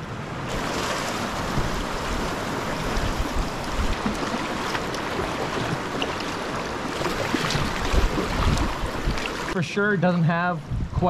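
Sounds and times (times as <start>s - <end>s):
river rapid rushing: 0.2s - 9.7s
paddle splashes in water: 0.5s - 9.6s.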